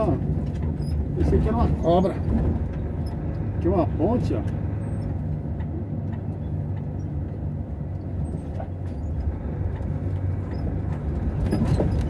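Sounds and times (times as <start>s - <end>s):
knocks and rattles from bumps: 0.0s - 12.0s
vehicle on dirt road rumbling: 0.0s - 12.0s.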